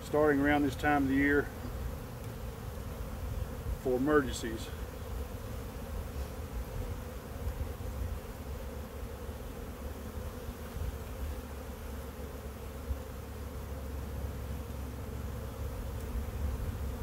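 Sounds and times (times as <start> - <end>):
honeybees humming: 0.0 - 17.0.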